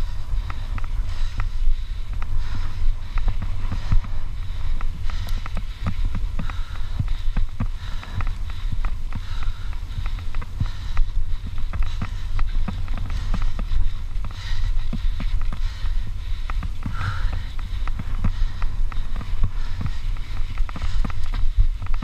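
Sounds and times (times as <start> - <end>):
bike rattling and knocking: 0.0 - 22.0
wind rush on microphone: 0.0 - 22.0.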